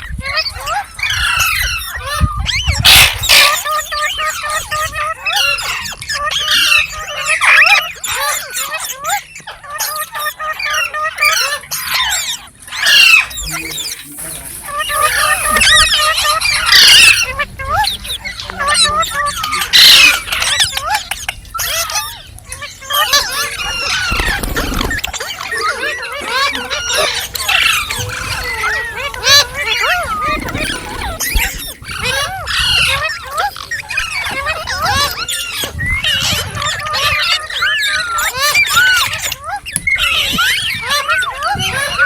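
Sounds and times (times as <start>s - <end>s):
parrots chattering and squawking: 0.0s - 42.0s.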